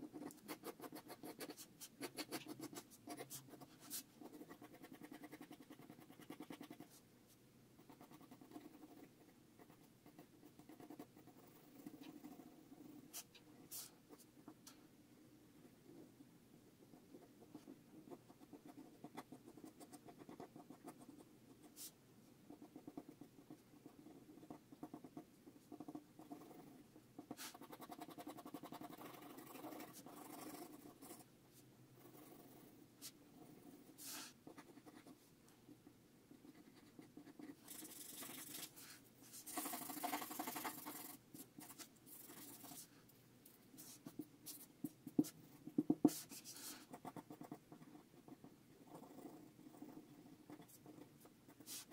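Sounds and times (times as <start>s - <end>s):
pencil scratching on paper: 0.0s - 14.7s, 16.8s - 35.3s, 36.3s - 43.1s, 43.7s - 51.9s.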